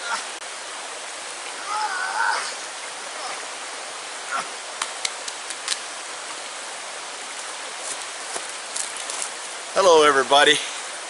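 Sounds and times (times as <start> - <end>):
running water hiss: 0.0 - 11.0.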